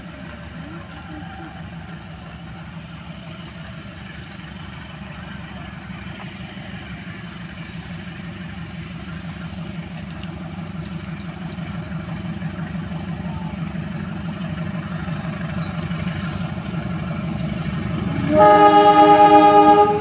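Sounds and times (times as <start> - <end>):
locomotive engine running: 0.0 - 20.0.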